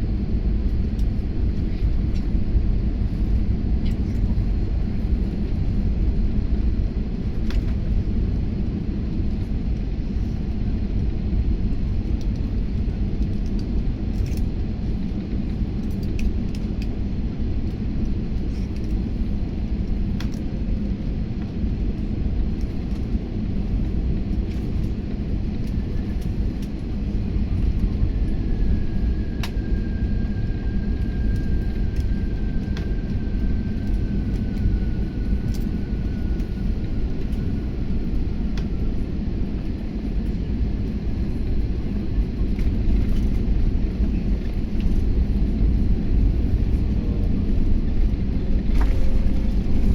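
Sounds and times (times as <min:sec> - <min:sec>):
airliner engines rumbling in cabin: 0:00.0 - 0:49.9.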